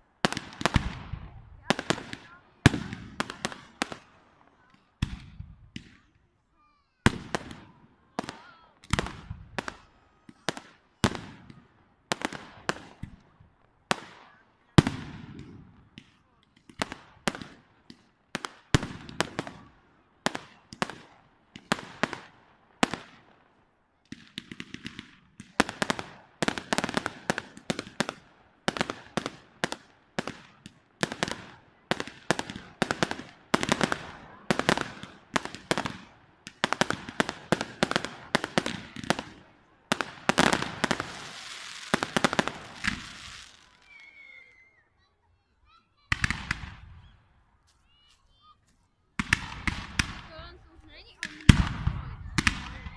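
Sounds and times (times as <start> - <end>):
fireworks bangs: 0.0 - 44.8, 45.7 - 47.3, 49.1 - 52.9
fireworks crackle: 6.8 - 44.8, 45.4 - 47.2, 49.1 - 52.9.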